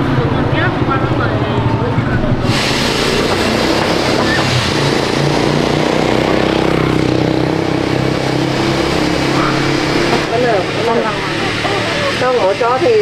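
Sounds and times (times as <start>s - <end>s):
small engine running: 2.5s - 13.0s.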